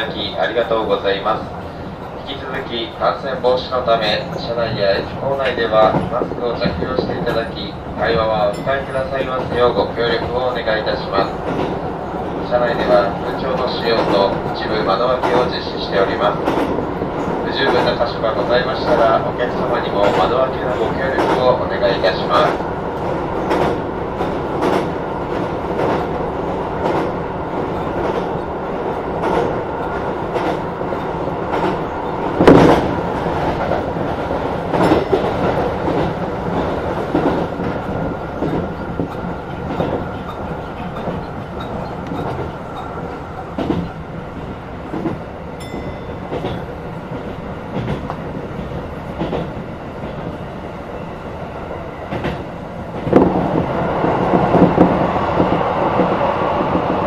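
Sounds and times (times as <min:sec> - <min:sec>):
electric train rumbling on rails: 0:00.0 - 0:57.0.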